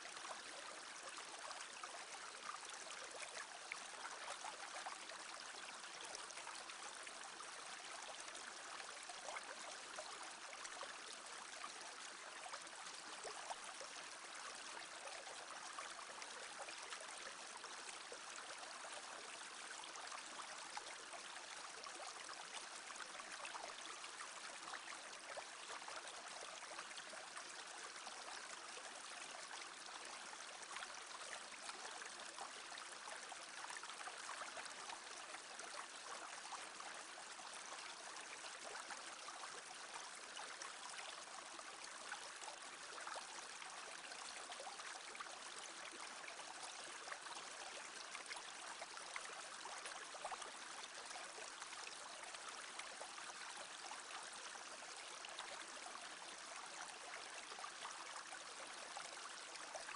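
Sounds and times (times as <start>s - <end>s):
brook babbling: 0.0s - 59.9s.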